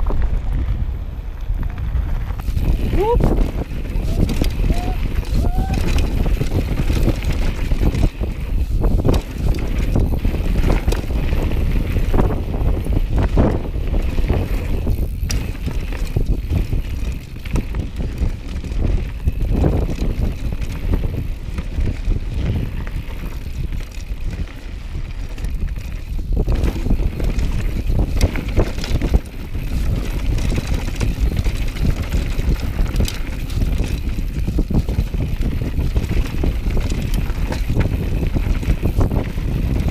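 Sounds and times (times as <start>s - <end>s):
bike rattling over stones: 0.0s - 39.9s
wind buffeting microphone: 0.0s - 39.9s.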